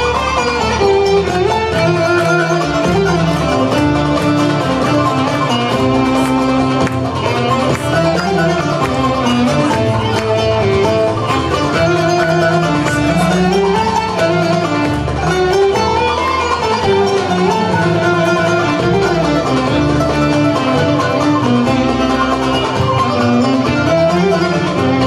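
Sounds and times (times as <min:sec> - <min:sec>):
classical ensemble with violin: 0:00.0 - 0:25.0.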